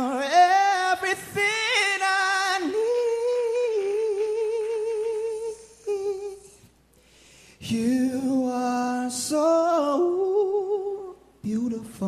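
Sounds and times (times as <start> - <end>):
man singing unaccompanied: 0.0 - 6.6, 7.6 - 12.0.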